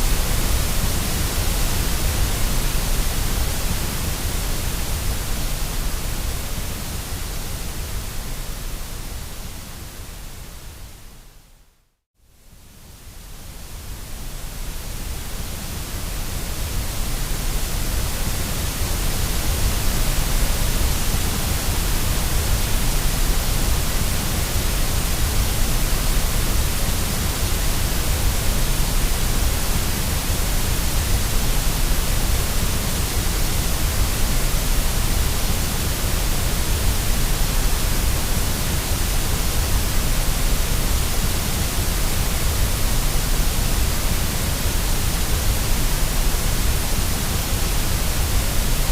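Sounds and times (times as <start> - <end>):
white noise hiss: 0.0 - 48.9.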